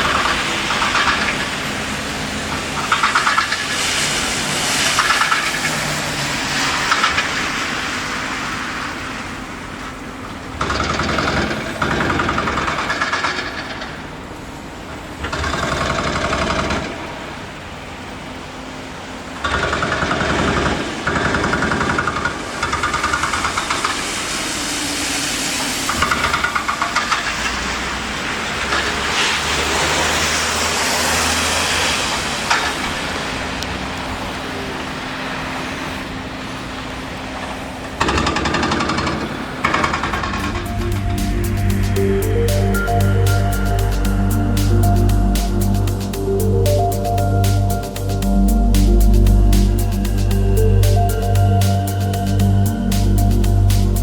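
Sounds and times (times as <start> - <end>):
traffic noise: 0.0 - 54.0.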